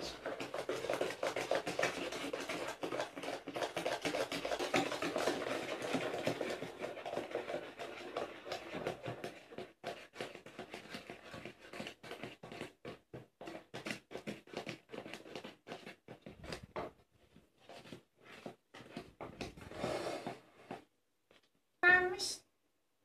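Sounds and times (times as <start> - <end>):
utensil scraping a bowl: 0.0 - 20.8.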